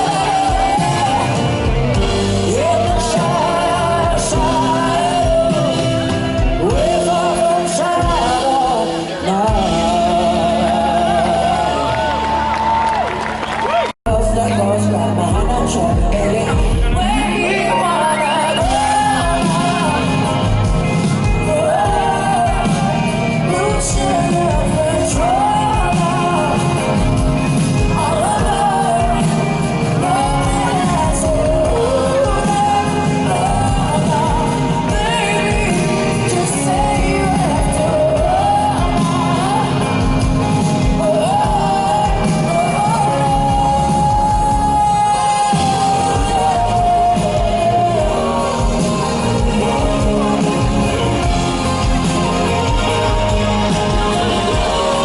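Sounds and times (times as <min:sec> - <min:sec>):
live band playing: 0:00.0 - 0:55.0
person singing: 0:00.0 - 0:55.0.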